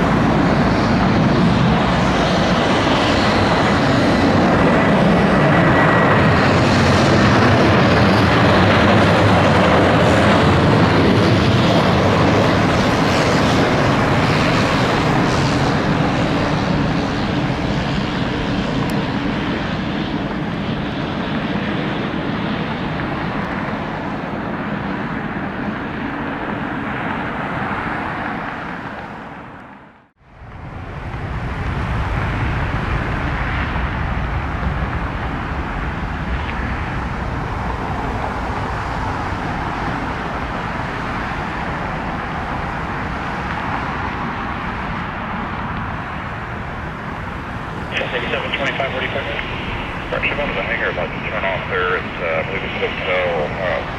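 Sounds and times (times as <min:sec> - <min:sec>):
jet engine roar: 0:00.0 - 0:53.9.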